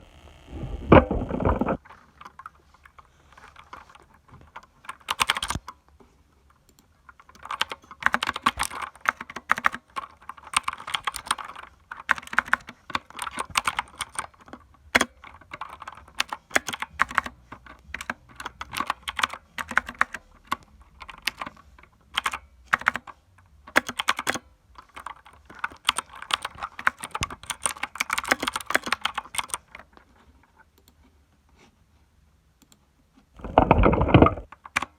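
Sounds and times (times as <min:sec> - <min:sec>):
mechanical keyboard typing: 0:00.9 - 0:05.9, 0:06.6 - 0:30.0, 0:33.4 - 0:34.9.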